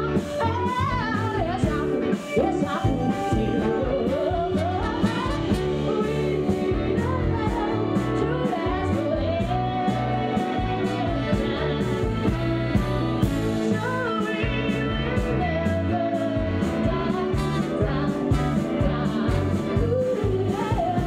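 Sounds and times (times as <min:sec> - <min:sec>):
rock band playing: 0:00.0 - 0:21.0
woman singing: 0:00.0 - 0:21.0.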